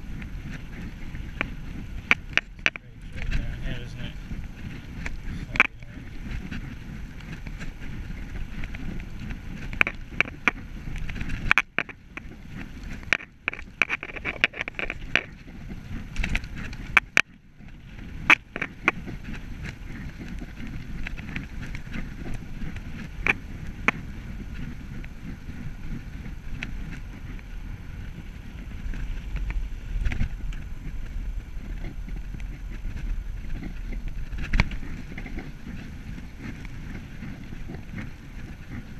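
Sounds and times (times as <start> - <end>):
wind buffeting microphone: 0.0 - 38.9
bike clicks and knocks: 0.2 - 3.8, 4.6 - 24.0, 28.5 - 38.8.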